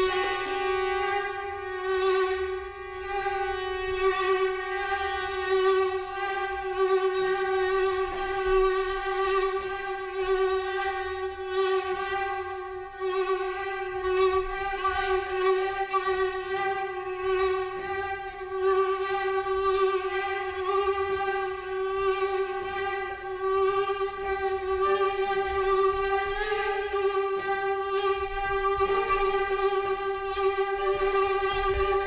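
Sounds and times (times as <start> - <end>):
violin bowing one note: 0.0 - 32.0.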